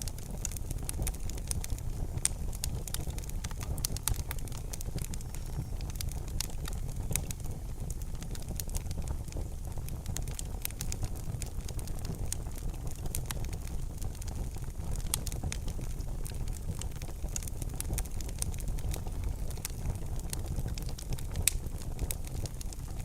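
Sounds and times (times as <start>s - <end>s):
fire low rumble: 0.0s - 23.0s
wood fire crackling: 0.0s - 23.0s.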